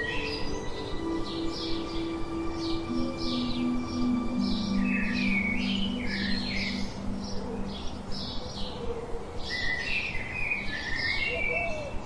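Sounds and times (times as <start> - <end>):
faint sustained low notes: 0.0 - 12.0
songbirds chirping: 0.0 - 12.0.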